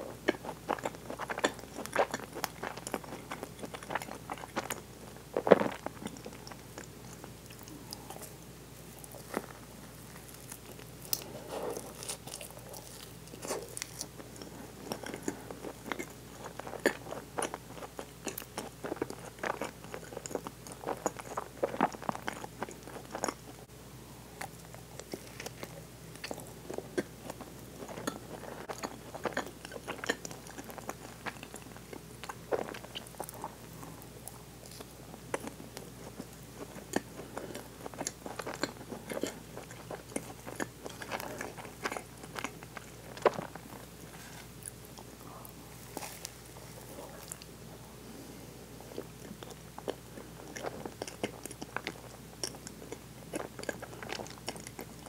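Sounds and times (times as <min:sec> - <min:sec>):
close chewing with wet clicks: 0:00.2 - 0:23.7, 0:24.4 - 0:47.5, 0:48.9 - 0:55.0.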